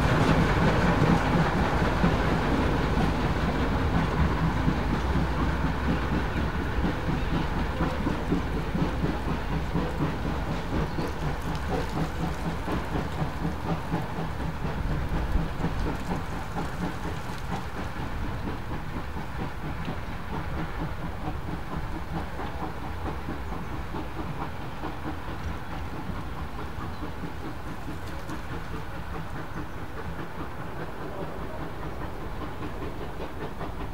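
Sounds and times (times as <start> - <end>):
steam locomotive and train running: 0.0 - 33.9.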